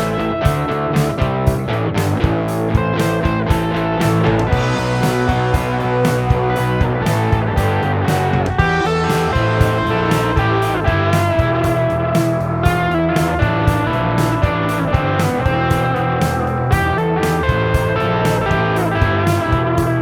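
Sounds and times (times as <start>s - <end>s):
drum hits: 0.0s - 20.0s
electric guitars: 0.0s - 20.0s.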